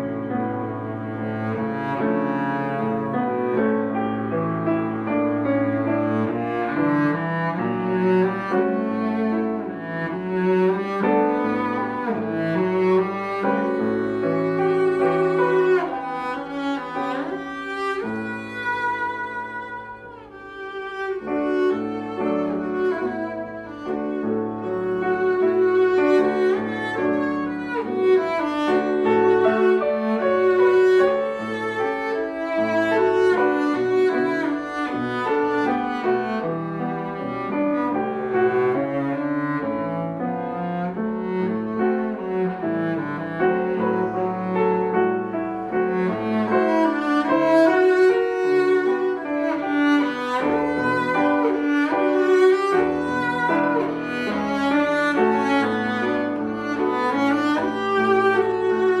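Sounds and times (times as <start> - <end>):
cello bowed: 0.0 - 59.0
grand piano: 0.0 - 59.0.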